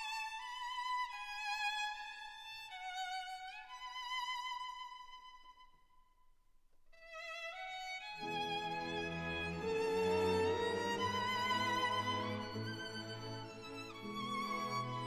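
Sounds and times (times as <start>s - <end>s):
classical music: 0.0s - 5.6s, 7.0s - 15.0s.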